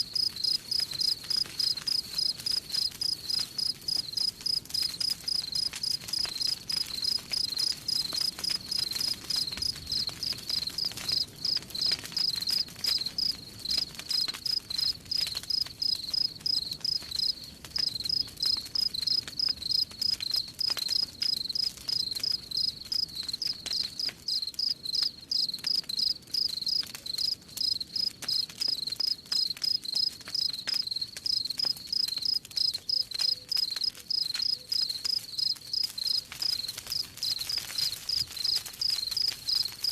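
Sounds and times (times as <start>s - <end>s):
campfire crackling: 0.0s - 39.9s
crickets chirping: 0.1s - 10.4s, 11.1s - 23.5s, 24.3s - 39.7s.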